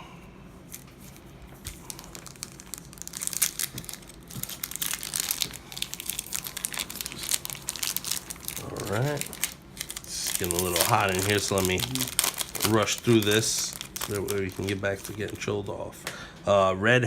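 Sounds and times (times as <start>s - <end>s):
foil wrapper crinkling: 0.7s - 15.7s
foil wrapper tearing: 0.7s - 15.7s.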